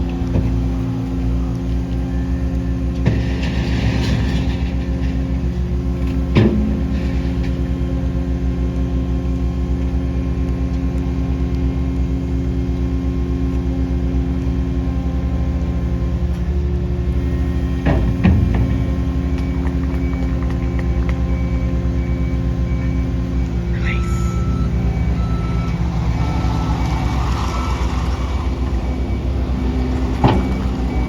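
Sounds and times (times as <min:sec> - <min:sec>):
skid steer engine running: 0:00.0 - 0:31.0.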